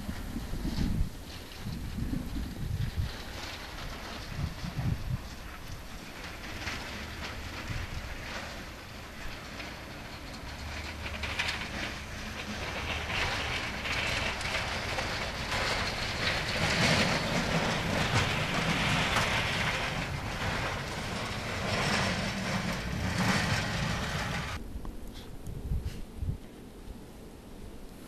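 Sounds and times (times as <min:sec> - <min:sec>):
plow blade scraping road: 0:00.0 - 0:24.6
truck engine rumble: 0:00.0 - 0:26.0.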